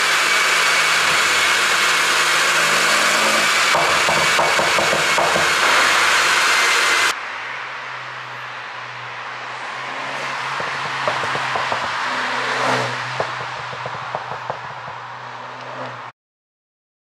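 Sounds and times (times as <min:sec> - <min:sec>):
car engine exhaust rushing: 0:00.0 - 0:16.1.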